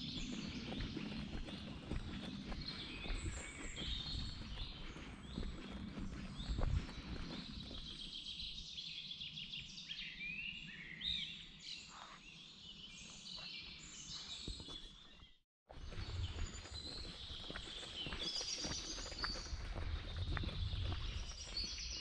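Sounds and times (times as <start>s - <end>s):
songbirds singing and chirping: 0.0s - 22.0s.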